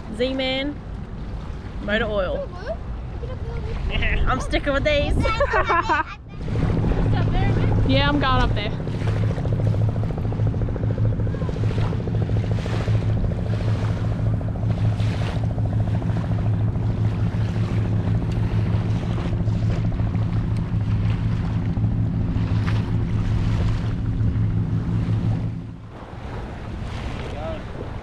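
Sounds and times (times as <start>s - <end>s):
engine running: 0.0s - 28.0s
water noise: 0.0s - 28.0s
wind noise on microphone: 3.6s - 28.0s.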